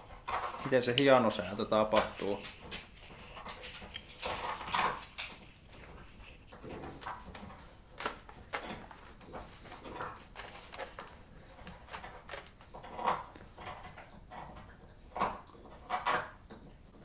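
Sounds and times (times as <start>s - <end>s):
plastic helmet clicks and rustles: 0.0s - 16.7s.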